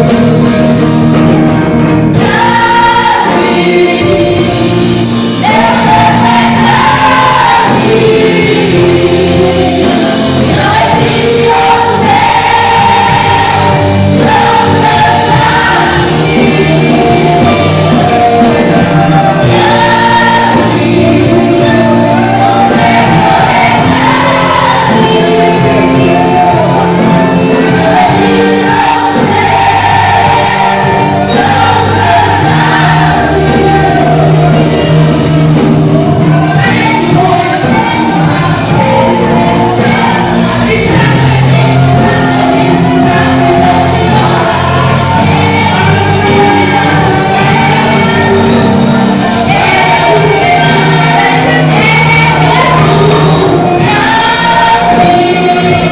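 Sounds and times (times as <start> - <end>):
choir singing gospel song: 0.0 - 55.9
instrumental backing: 0.0 - 55.9.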